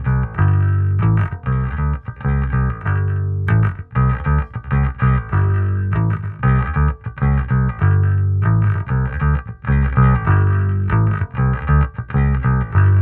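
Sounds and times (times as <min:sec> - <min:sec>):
electric bass guitar riff: 0:00.0 - 0:13.0.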